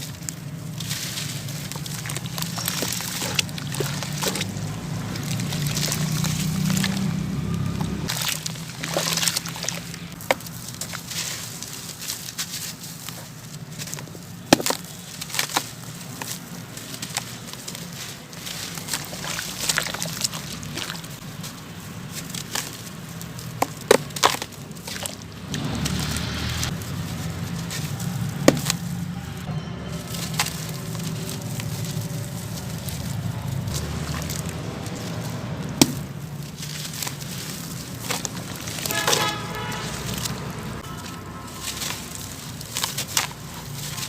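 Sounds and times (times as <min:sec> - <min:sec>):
gritty crunching of cement chunks: 0:00.0 - 0:44.0.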